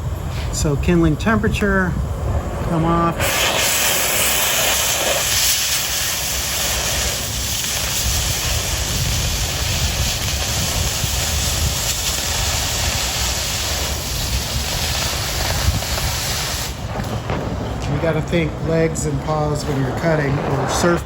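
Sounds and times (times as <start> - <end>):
cutting torch hissing: 0.0 - 21.0.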